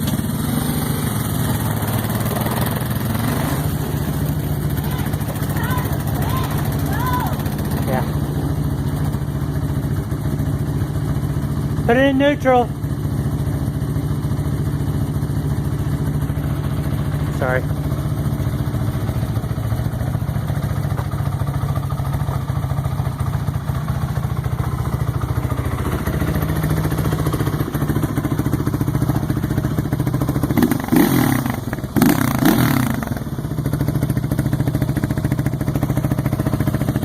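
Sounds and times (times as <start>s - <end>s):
atv engine revving: 0.0s - 37.0s
atv engine running: 0.0s - 37.0s.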